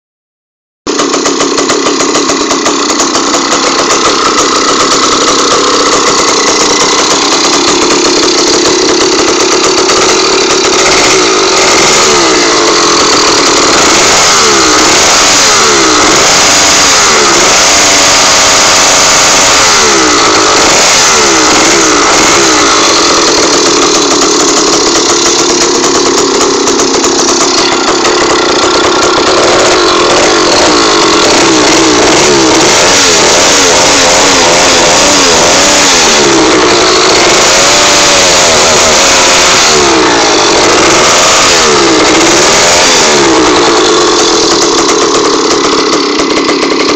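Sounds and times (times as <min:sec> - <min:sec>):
two-stroke engine revving: 0:00.9 - 0:46.9.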